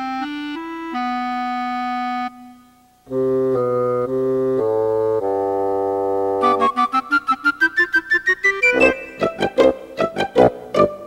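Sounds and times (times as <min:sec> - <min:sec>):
slow keyboard melody: 0:00.0 - 0:11.0.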